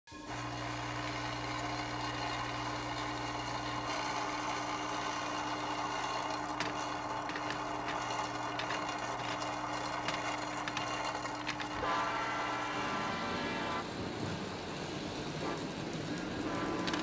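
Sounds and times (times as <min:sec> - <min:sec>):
toy train loader buzzing: 0:00.2 - 0:17.0.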